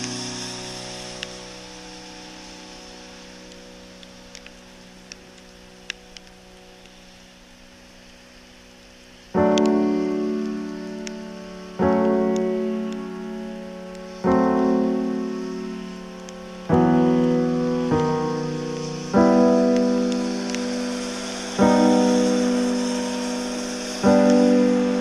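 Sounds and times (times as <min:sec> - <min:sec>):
piano chords: 0:00.0 - 0:06.8, 0:08.9 - 0:25.0.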